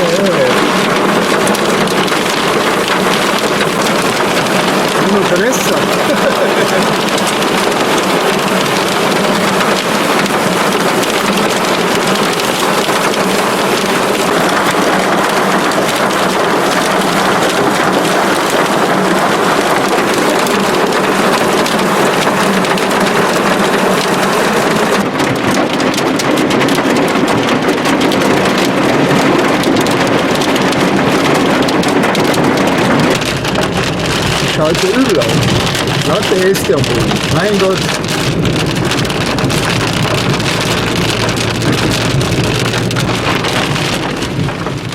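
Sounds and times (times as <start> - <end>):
hailstones ticking: 0.0 - 44.9
heavy downpour with hail: 0.0 - 44.9.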